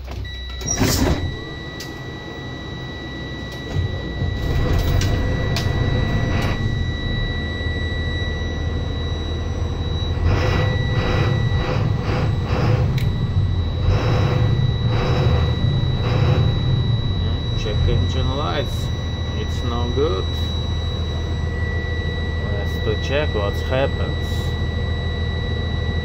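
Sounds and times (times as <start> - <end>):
high-pitched warning tone: 0.0 - 26.0.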